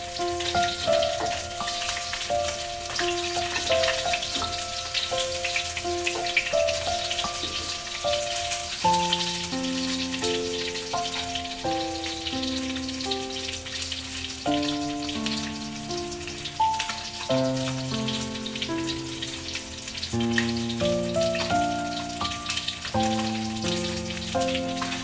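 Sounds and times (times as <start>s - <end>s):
fish sizzling in hot oil: 0.0s - 25.0s
slow background music: 0.0s - 25.0s.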